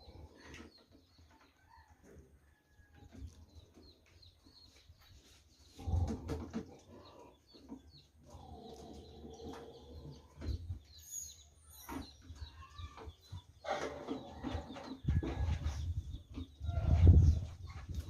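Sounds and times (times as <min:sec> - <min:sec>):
chickens calling: 0:00.0 - 0:18.0
small birds chirping: 0:00.0 - 0:18.0.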